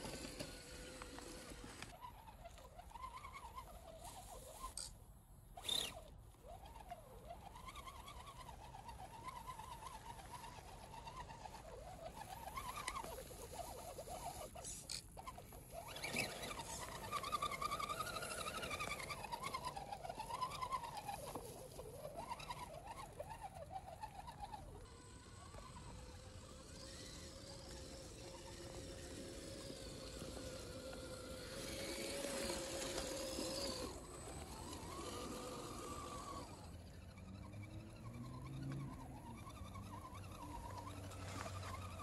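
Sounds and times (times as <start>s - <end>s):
electric motors whining: 0.0s - 42.0s.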